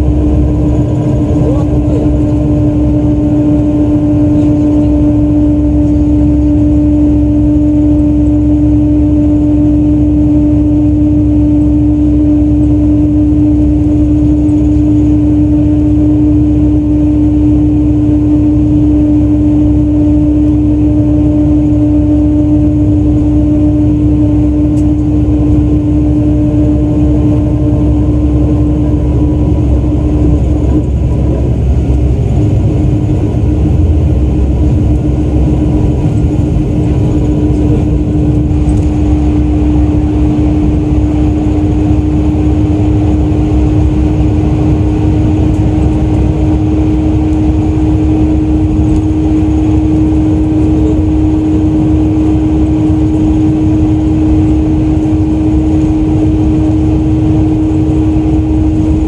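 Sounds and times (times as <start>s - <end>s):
diesel coach engine running: 0.0s - 59.0s.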